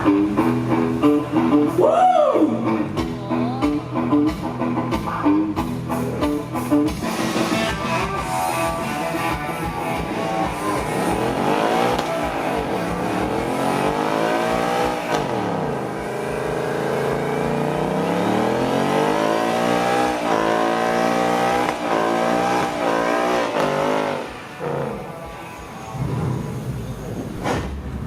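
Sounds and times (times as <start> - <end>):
car engine revving: 0.0 - 3.2, 3.8 - 28.0.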